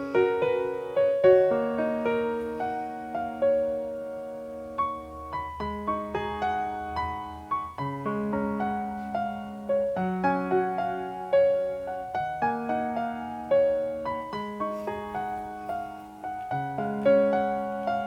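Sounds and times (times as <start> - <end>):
gentle piano piece: 0.0 - 18.0.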